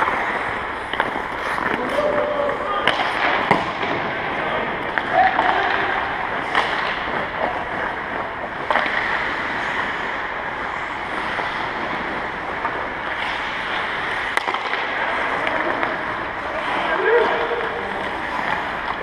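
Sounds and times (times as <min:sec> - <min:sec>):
skate blades scraping ice: 0:00.0 - 0:19.0
sticks striking pucks: 0:00.0 - 0:19.0.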